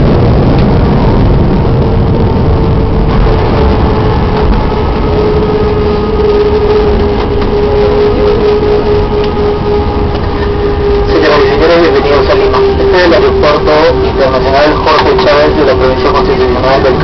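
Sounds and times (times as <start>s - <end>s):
airplane cabin engine rumble: 0.0s - 17.0s
steady engine whine: 0.0s - 17.0s.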